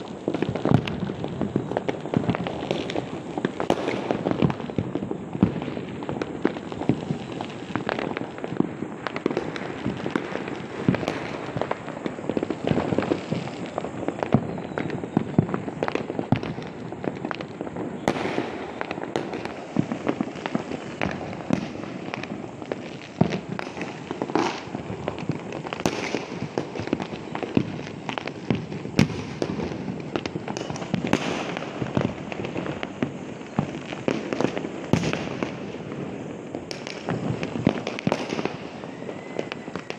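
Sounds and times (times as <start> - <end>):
firecrackers crackling: 0.0 - 39.9
fireworks bangs: 0.0 - 39.9.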